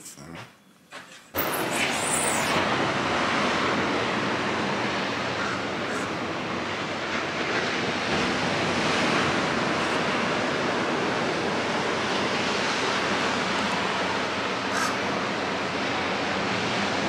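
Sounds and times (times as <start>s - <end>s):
ocean surf: 1.4s - 17.0s.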